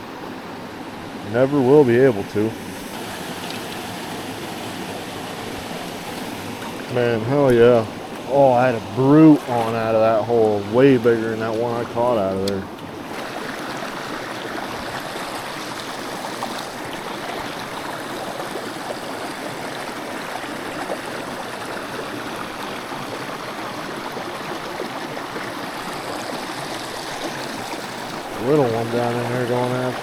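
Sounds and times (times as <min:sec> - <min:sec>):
brook running over rocks: 0:00.1 - 0:30.0.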